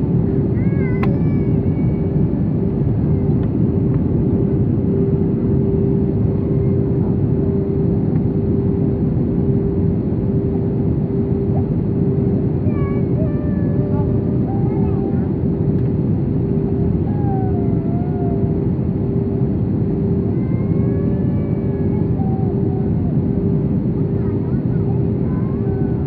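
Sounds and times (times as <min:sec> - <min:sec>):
airplane engines and airflow rumble: 0:00.0 - 0:26.0
steady humming tone: 0:00.0 - 0:26.0.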